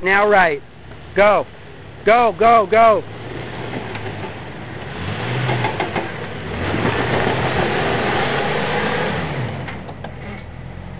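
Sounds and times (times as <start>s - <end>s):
engine revving under load: 0.9s - 10.9s.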